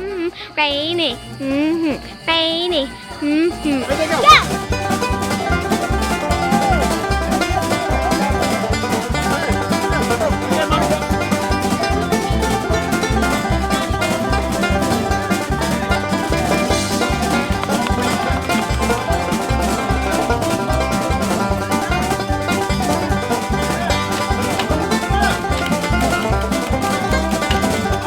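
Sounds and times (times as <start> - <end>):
upbeat plucked string music: 0.0 - 28.0.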